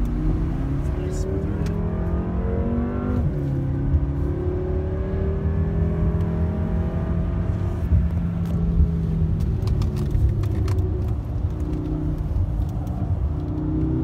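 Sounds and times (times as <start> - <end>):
car engine accelerating: 0.0 - 14.0
road and wind rumble: 0.0 - 14.0.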